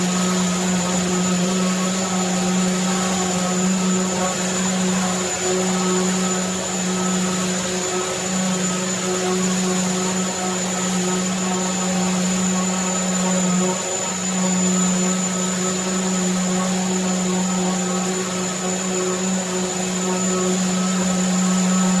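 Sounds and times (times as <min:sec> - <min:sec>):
electric sander humming and whining: 0:00.0 - 0:22.0.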